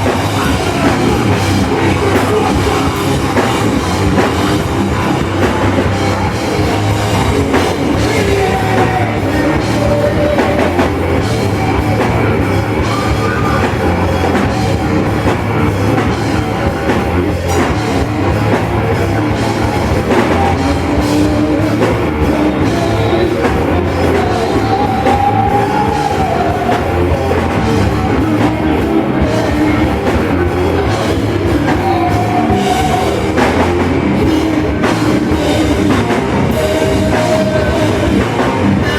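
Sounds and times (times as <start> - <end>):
drum kit: 0.0 - 38.9
heavy rock music: 0.0 - 38.9.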